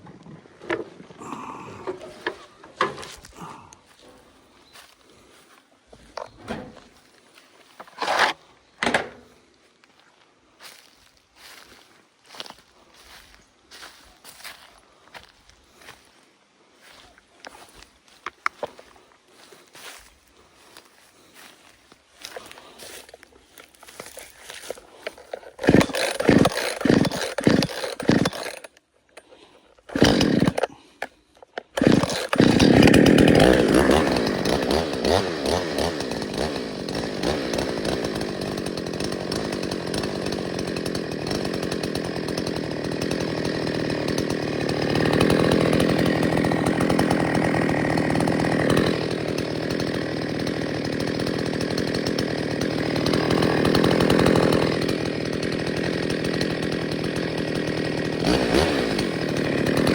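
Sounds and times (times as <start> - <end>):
chainsaw starting and revving: 0.0 - 5.5, 7.8 - 9.4, 18.3 - 59.9.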